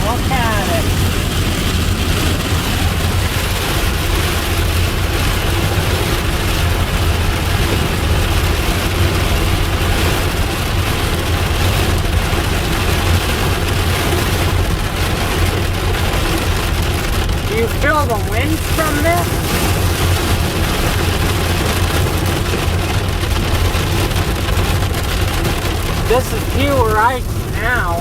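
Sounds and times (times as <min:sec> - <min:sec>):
hail hitting car roof: 0:00.0 - 0:28.0
low rumble of car: 0:00.0 - 0:28.0.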